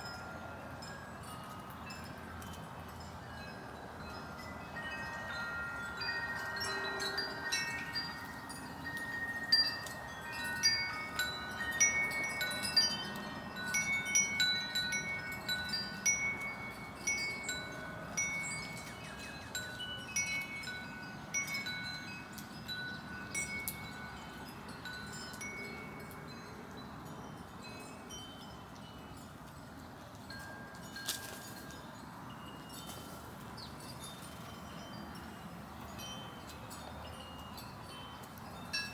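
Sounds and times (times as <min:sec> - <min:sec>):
wind chimes ringing: 0:00.0 - 0:38.9.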